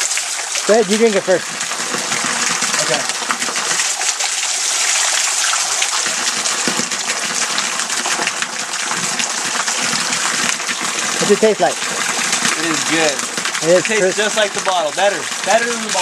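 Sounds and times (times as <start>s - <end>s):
waterfall pouring: 0.0s - 16.0s.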